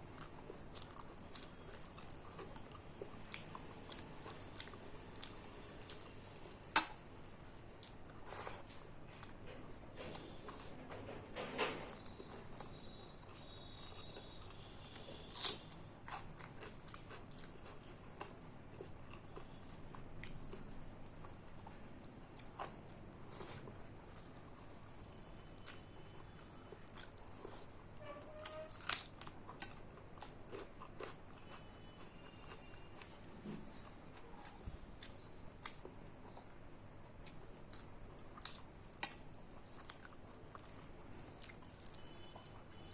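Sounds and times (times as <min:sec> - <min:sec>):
person chewing food: 0:00.0 - 0:11.1, 0:11.9 - 0:27.8, 0:28.4 - 0:42.9.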